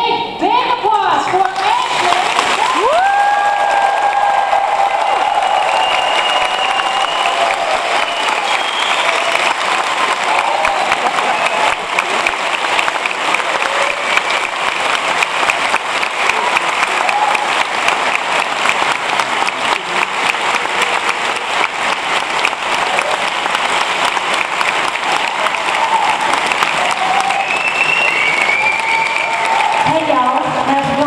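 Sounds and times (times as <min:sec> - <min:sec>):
large audience applauding: 0:01.2 - 0:31.0.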